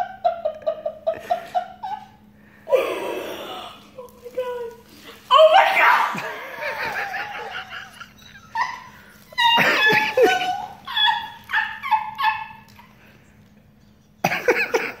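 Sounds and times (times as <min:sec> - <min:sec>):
woman squealing laughter: 0:00.0 - 0:04.3, 0:05.3 - 0:13.0.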